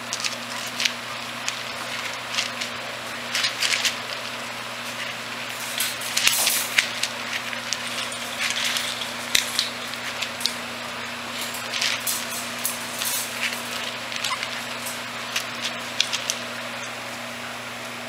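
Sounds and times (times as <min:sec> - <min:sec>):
pellet bedding rustling: 0:00.0 - 0:16.9
claws clicking and scratching: 0:00.0 - 0:17.0.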